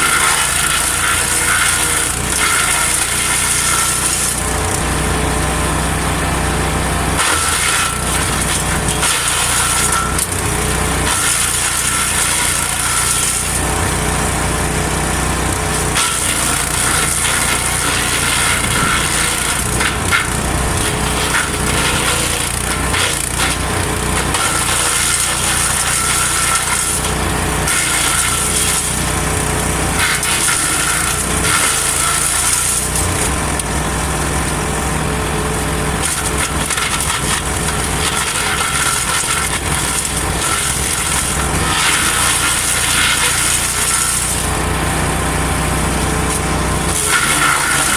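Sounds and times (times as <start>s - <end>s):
wood crackling and splintering: 0.0s - 6.2s, 6.9s - 47.9s
wood chipper engine running: 0.0s - 47.9s.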